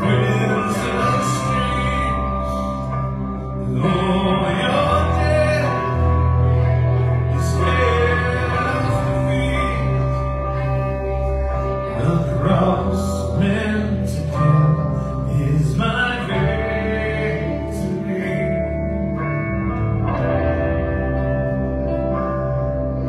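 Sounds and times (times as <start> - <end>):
electric guitars: 0.0 - 23.0
keyboard: 0.0 - 23.0
person singing: 0.0 - 23.0.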